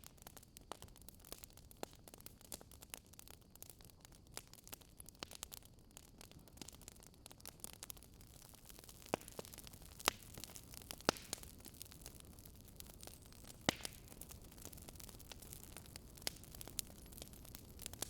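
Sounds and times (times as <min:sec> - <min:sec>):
campfire crackling and popping: 0:00.0 - 0:18.0
faint steady hiss: 0:00.0 - 0:18.0.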